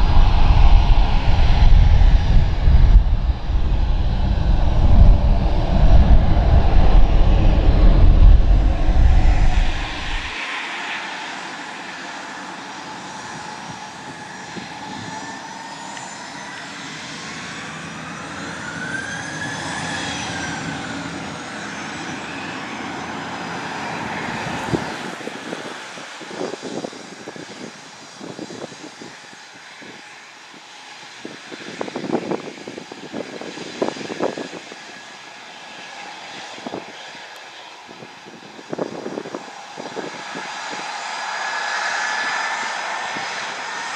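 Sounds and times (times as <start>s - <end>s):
jet engine whine: 0.0s - 43.9s.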